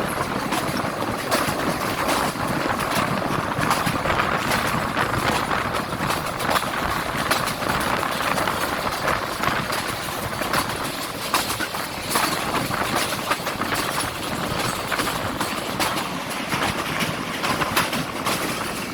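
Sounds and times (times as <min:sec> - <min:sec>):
train rushing: 0:00.0 - 0:18.9.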